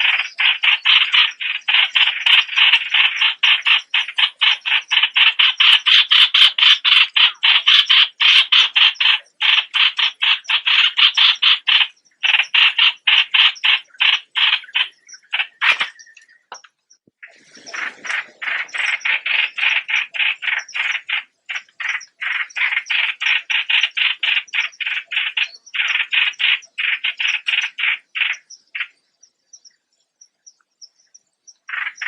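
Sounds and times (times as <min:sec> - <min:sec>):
bird chattering call: 0:00.0 - 0:16.7, 0:17.6 - 0:29.0, 0:31.6 - 0:32.0.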